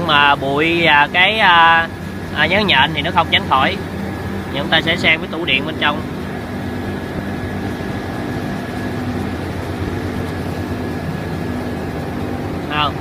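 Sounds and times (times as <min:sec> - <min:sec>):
rice mill machinery droning: 0:00.0 - 0:13.0.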